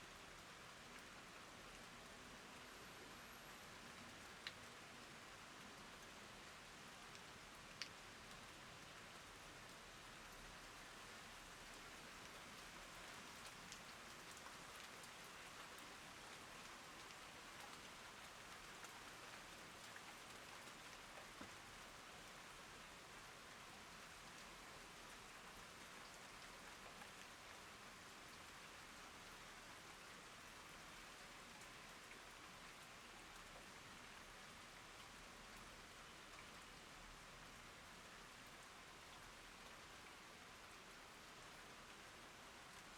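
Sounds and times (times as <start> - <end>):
rain pattering on plants: 0.1 - 42.9.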